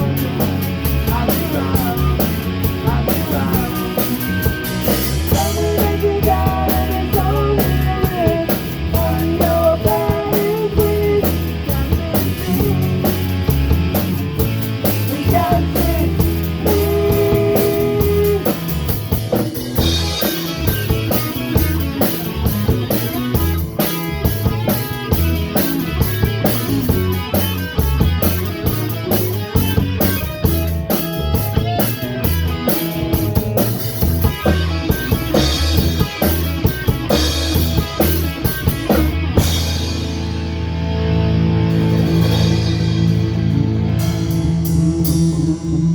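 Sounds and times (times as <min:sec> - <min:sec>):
rock music with electric guitars: 0:00.0 - 0:45.9.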